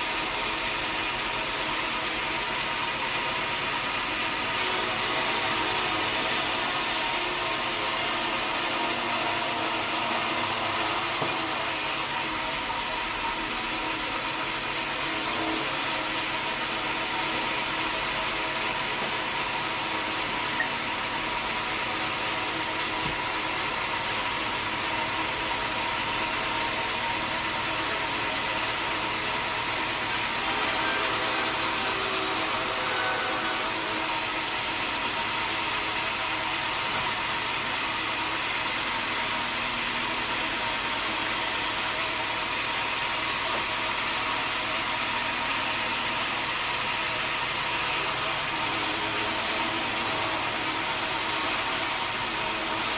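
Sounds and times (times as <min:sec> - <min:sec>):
sawmill machinery humming: 0:00.0 - 0:52.9.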